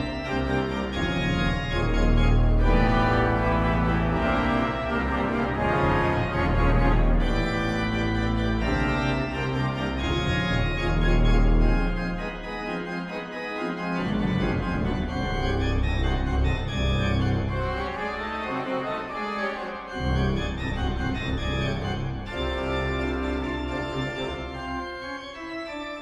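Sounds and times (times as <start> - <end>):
pipe organ chords: 0.0 - 26.0.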